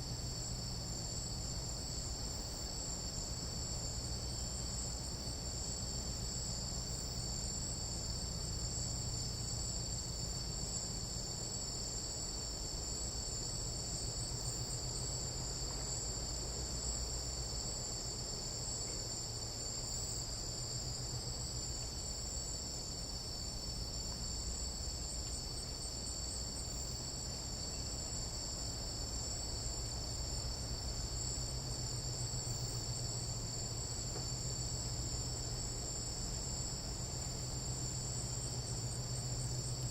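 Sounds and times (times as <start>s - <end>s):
insects trilling: 0.2s - 39.9s.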